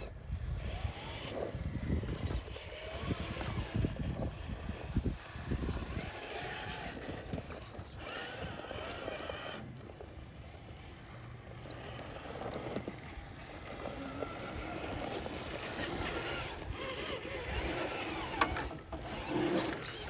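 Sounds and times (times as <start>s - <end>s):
rc truck motors whining: 0.0s - 20.0s.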